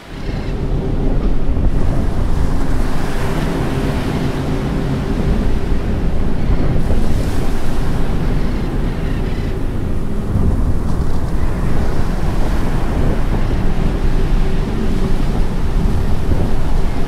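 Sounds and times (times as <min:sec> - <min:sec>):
deep rumble: 0:00.0 - 0:17.0
surging water: 0:00.0 - 0:17.0
wind: 0:00.0 - 0:17.0.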